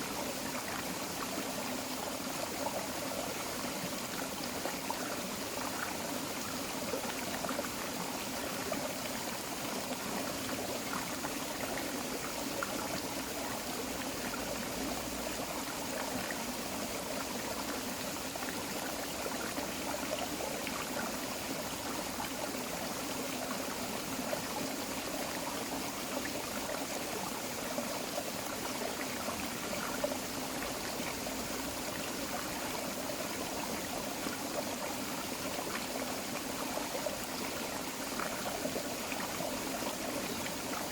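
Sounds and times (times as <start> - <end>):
creek babbling over rocks: 0.0 - 40.9.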